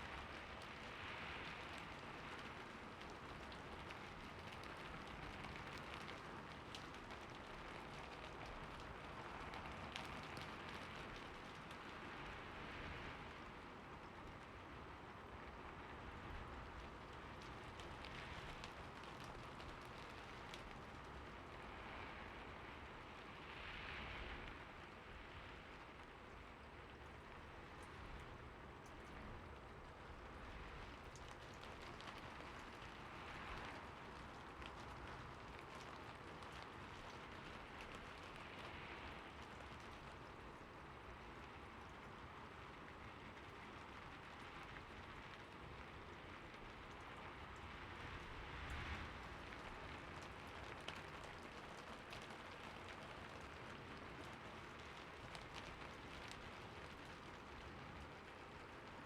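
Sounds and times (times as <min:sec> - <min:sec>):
rain hiss: 0:00.0 - 0:59.0.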